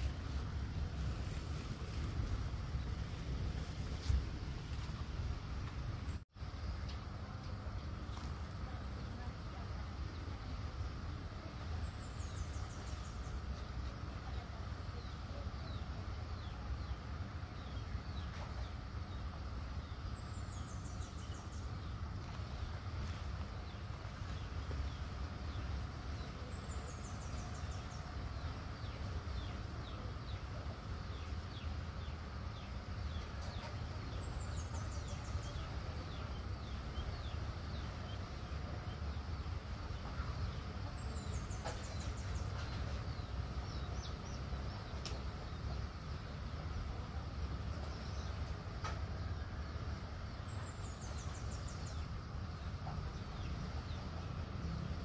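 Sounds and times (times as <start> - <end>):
birds chirping: 0.0 - 55.0
steady low rumble: 0.0 - 55.0.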